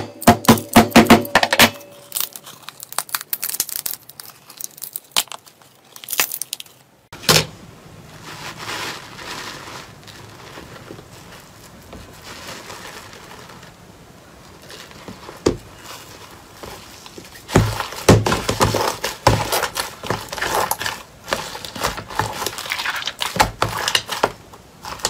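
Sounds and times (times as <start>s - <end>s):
slime crackling and crinkling: 1.9s - 7.1s, 7.9s - 25.0s.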